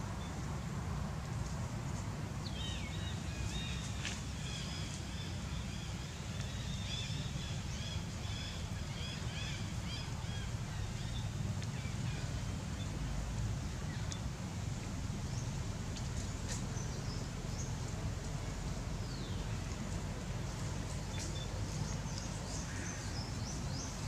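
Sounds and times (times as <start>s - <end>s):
small birds chirping: 1.9s - 24.0s.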